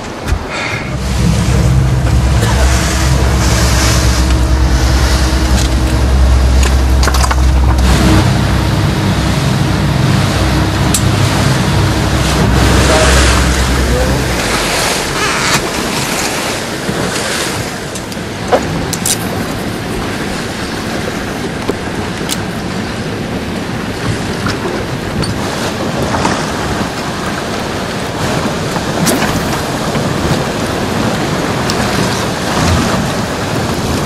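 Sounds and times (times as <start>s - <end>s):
boat motor running: 0.0s - 34.0s
water noise: 0.0s - 34.0s
wind: 0.0s - 34.0s.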